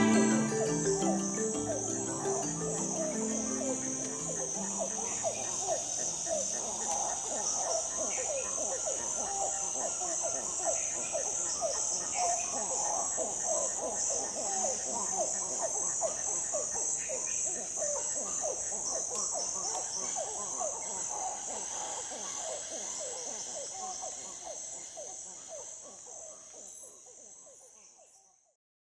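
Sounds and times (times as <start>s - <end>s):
frogs calling: 0.0s - 28.4s
insect trill: 0.0s - 28.4s.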